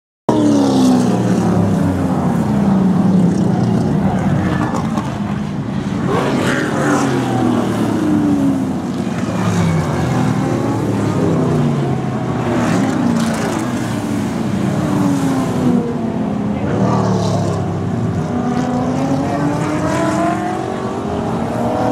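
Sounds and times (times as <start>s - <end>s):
racing cars passing: 0.3s - 21.9s.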